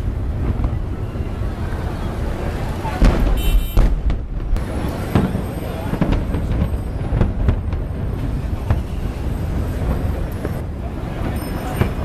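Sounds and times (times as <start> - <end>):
fireworks bangs: 0.0 - 12.0
low rumble of fireworks: 0.0 - 12.0.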